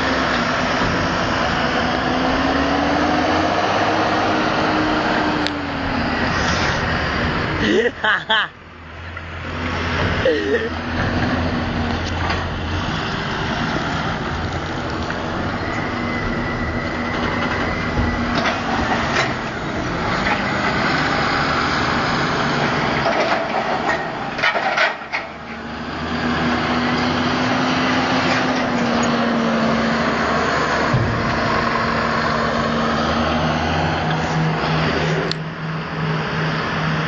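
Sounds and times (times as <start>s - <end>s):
tractor engine working hard: 0.0s - 37.0s.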